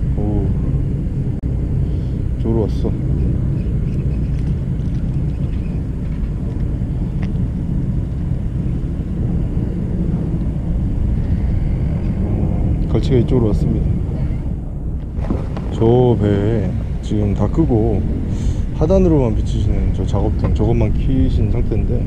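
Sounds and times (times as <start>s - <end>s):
engine rumble idling: 0.0s - 22.0s.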